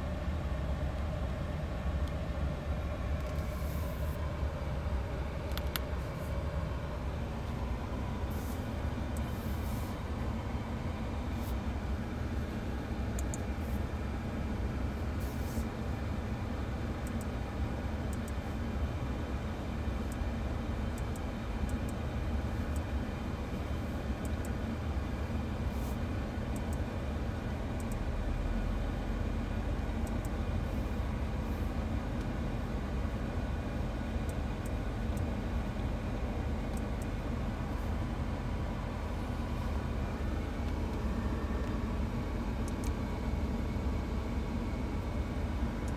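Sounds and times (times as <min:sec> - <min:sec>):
car engine rumble: 0:00.0 - 0:45.9
road rolling noise: 0:00.0 - 0:45.9.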